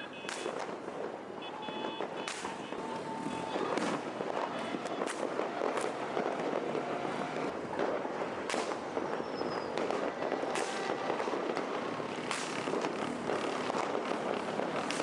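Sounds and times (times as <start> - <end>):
firework bangs: 0.0 - 15.0
fireworks crackling: 0.0 - 15.0.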